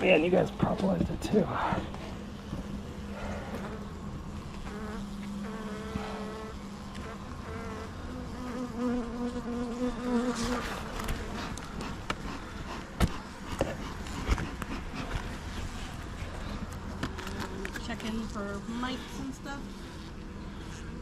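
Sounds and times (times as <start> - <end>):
honeybees buzzing: 1.4 - 21.0.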